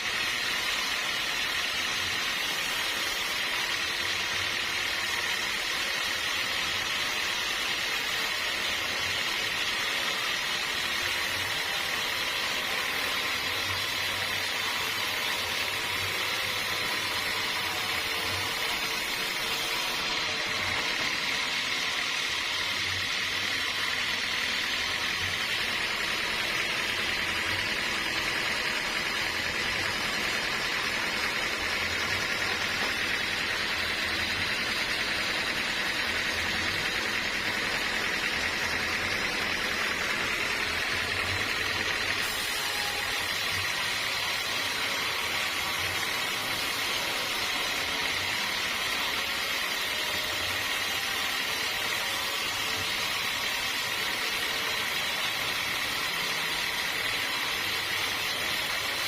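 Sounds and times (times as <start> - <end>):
sawmill saw whine: 0.0 - 59.0.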